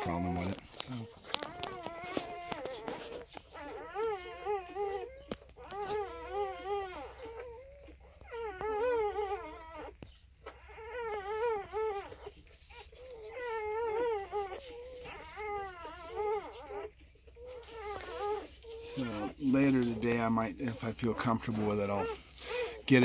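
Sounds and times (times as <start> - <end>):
puppies whimpering: 0.0 - 23.0.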